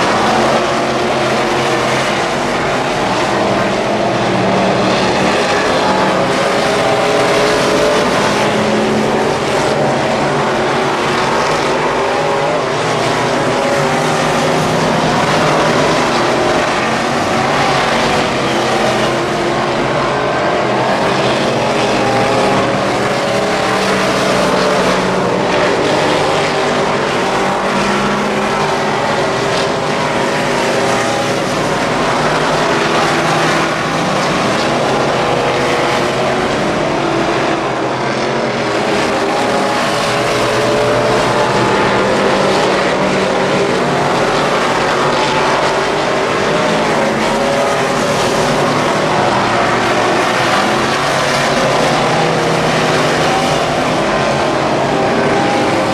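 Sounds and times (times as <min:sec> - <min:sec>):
race car engines at speed: 0:00.0 - 0:55.9.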